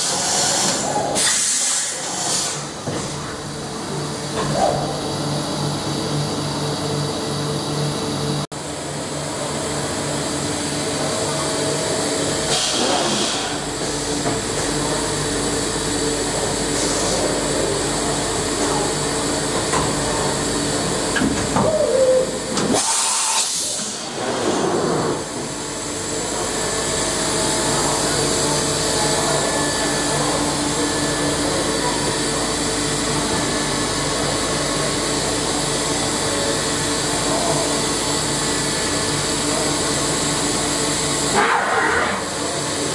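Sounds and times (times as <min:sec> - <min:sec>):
machining center humming: 0:02.6 - 0:41.4.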